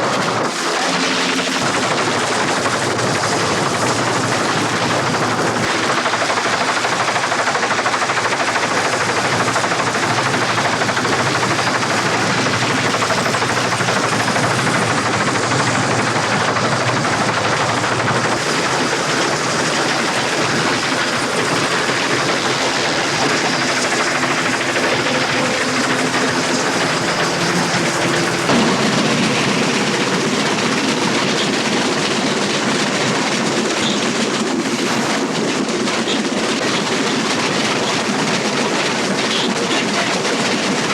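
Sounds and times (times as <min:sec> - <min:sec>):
fast vehicle rushing and chattering: 0:00.0 - 0:40.9.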